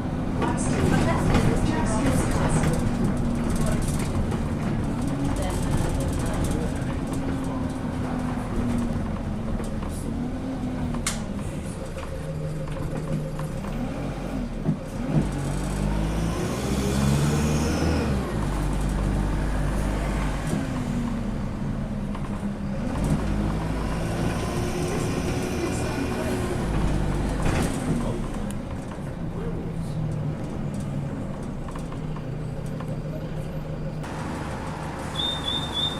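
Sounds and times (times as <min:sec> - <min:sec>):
bus engine accelerating: 0:00.0 - 0:35.9.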